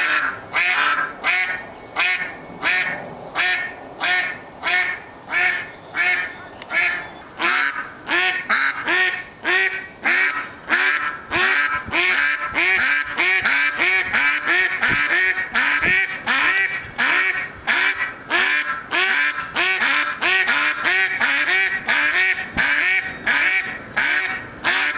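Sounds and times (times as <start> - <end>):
duck quacking: 0.0 - 24.9.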